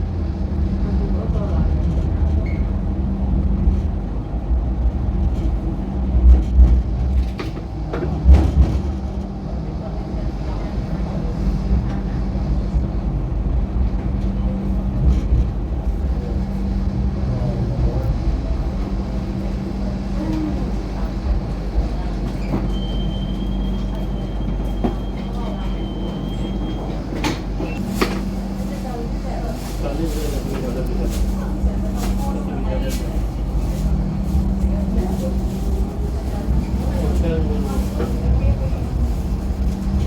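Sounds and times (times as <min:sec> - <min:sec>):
train rumbling along track: 0:00.0 - 0:40.0.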